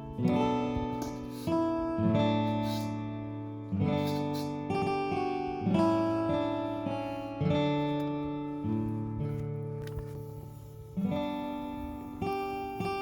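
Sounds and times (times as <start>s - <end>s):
acoustic guitar strummed slowly: 0.0s - 13.0s.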